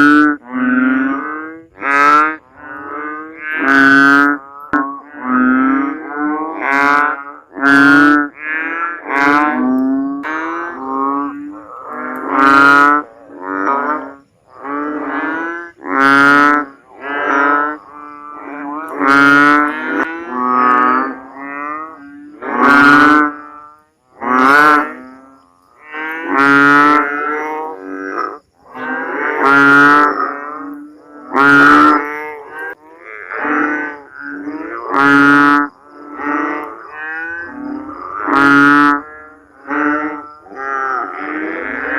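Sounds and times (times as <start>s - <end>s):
frogs calling: 0.0s - 41.9s.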